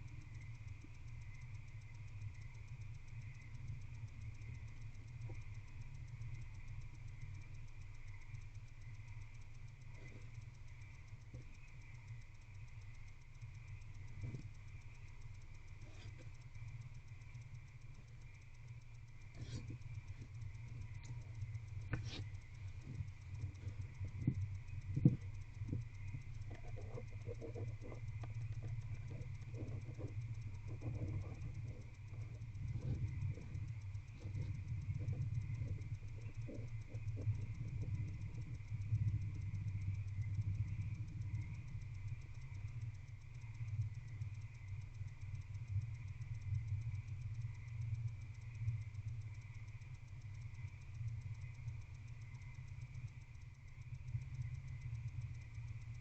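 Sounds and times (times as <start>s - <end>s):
faint fast ticking: 0.0s - 56.0s
steady low hum: 0.0s - 56.0s.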